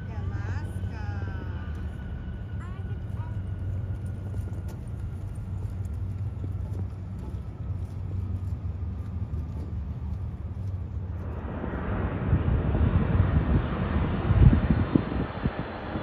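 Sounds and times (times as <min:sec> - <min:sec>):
jet engine roar: 0:00.0 - 0:16.0
low steady rumble: 0:00.0 - 0:16.0.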